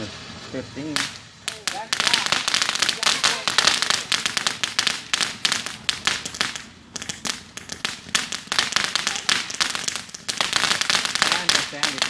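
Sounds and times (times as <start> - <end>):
firework crackling and popping: 0.0 - 12.0.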